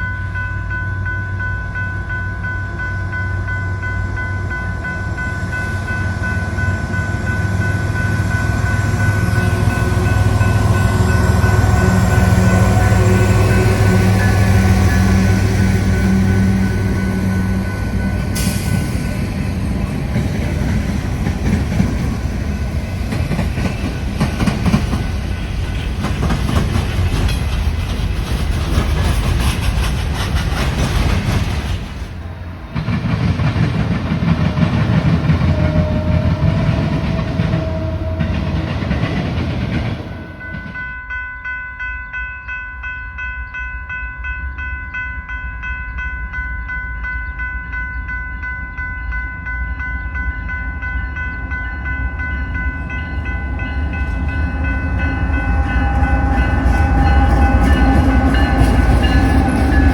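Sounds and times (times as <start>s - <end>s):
train wheels rumbling on rails: 0.0s - 41.1s, 49.8s - 59.9s.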